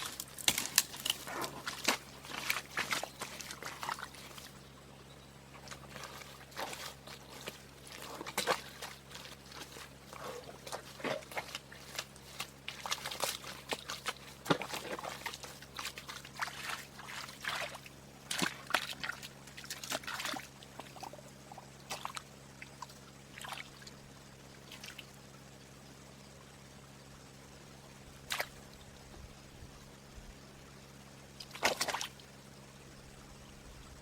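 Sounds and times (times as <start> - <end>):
water splashing and sloshing: 0.0 - 25.3, 28.2 - 29.7, 31.4 - 32.3.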